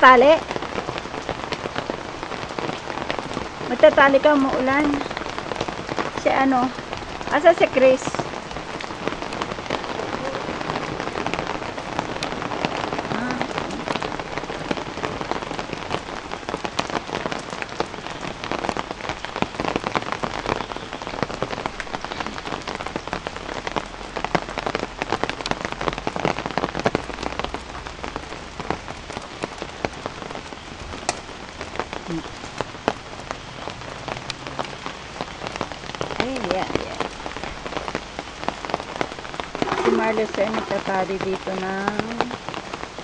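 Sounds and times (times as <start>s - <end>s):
rain on hard wet surfaces: 0.0s - 43.0s.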